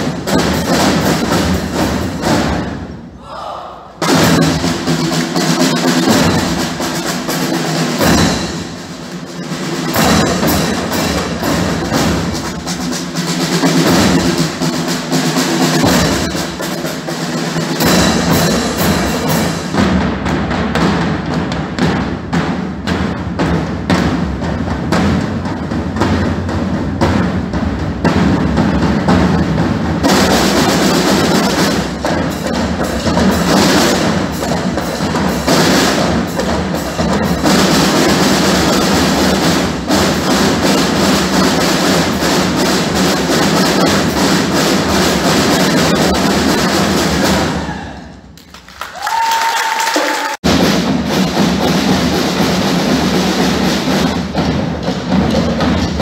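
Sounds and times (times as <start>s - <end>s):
side drums playing rolls: 0.0s - 3.1s, 4.0s - 56.0s.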